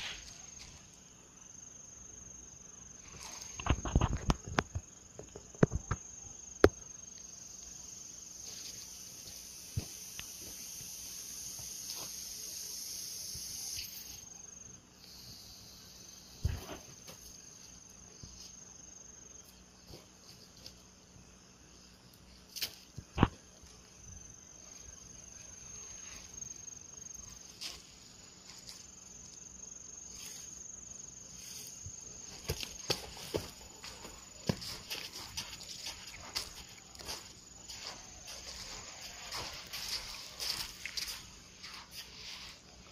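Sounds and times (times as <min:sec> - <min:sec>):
insects buzzing: 0:00.0 - 0:42.9.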